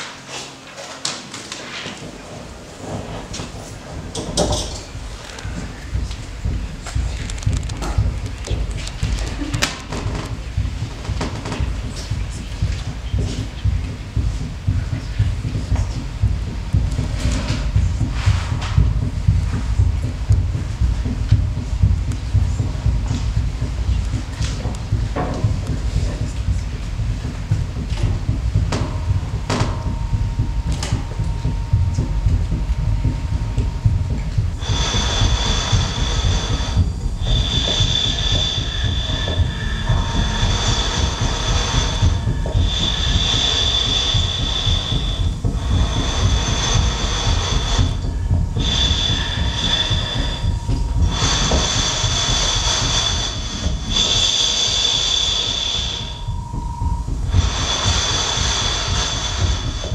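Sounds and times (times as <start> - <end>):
heavy low rumble: 2.1 - 59.9
steady mid-pitched tone: 2.8 - 59.9
high whistling tones: 5.0 - 59.9.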